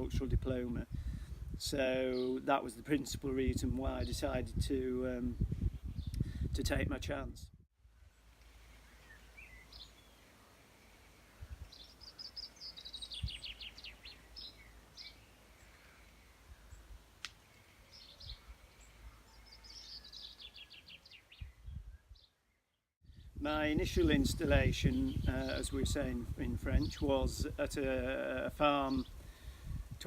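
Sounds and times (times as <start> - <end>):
songbird singing: 1.7 - 4.4, 5.3 - 6.2, 8.0 - 30.0.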